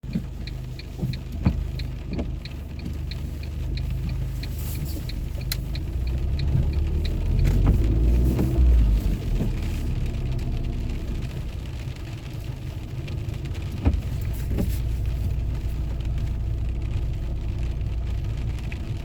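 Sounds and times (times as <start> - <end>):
car engine rumbling: 0.0 - 19.0
light regular ticking: 0.0 - 19.0.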